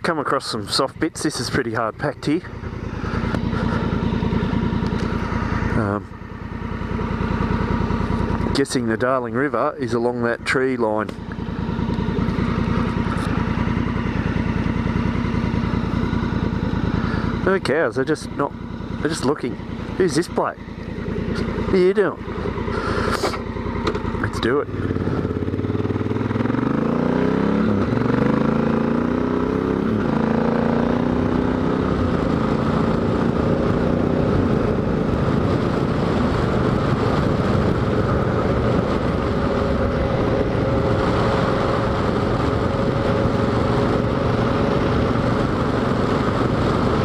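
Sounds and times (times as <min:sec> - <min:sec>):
motorcycle engine accelerating: 0:00.0 - 0:47.0
rushing wind: 0:00.0 - 0:47.0.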